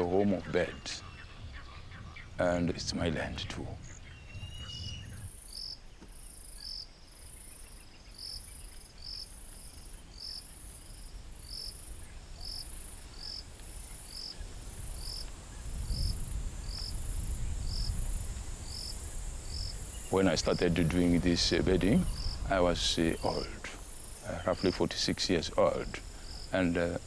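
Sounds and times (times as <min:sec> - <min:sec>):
insect chirping: 0:00.0 - 0:27.0.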